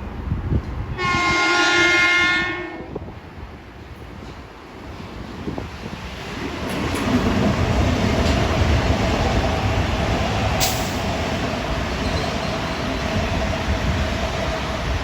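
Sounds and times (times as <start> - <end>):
train hum: 0.0 - 15.0
train wheels rumbling on rail: 0.0 - 15.0.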